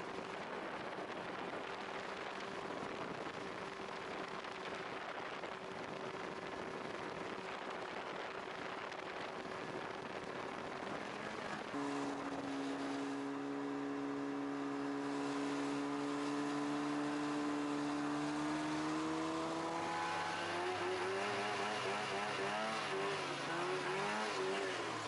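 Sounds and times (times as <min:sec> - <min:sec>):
snowmobile engine hum: 0:00.0 - 0:25.0.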